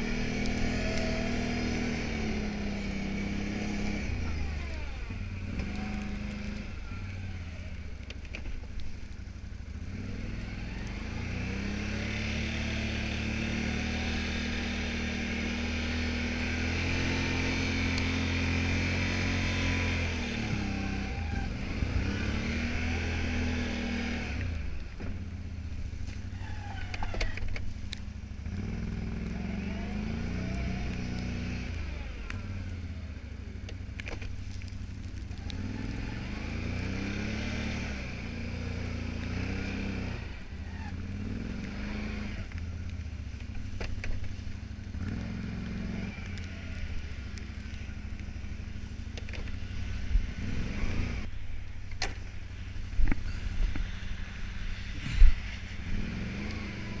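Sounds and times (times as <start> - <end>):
atv engine running under load: 0.0 - 57.0.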